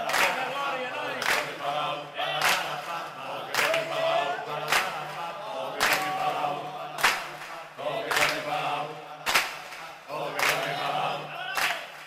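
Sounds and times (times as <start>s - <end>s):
group of voices chanting: 0.0s - 12.0s.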